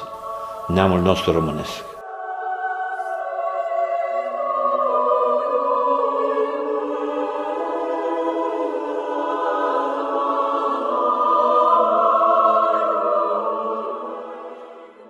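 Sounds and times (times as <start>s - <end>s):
choir singing long chords: 0.0s - 15.0s.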